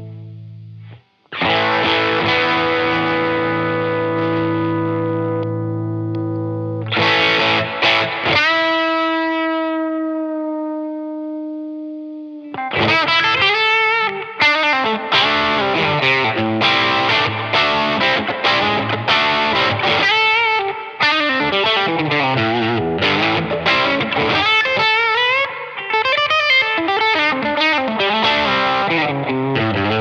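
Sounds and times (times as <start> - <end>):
electric guitar chords and notes: 0.0 - 30.0.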